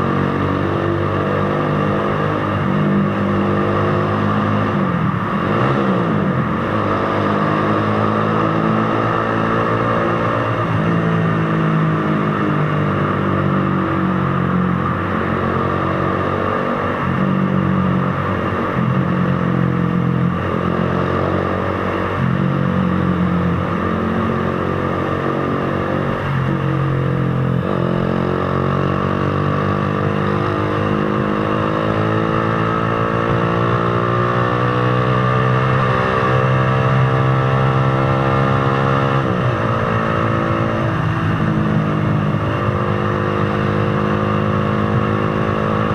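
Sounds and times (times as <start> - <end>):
motorcycle engine shifting gears: 0.0 - 45.9.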